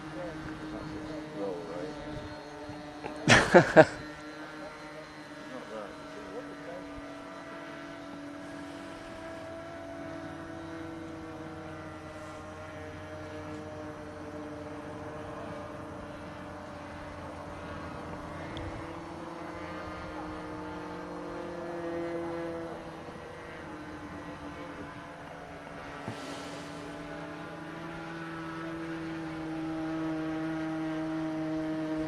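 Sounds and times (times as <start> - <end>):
model airplane engine droning: 0.0 - 32.0.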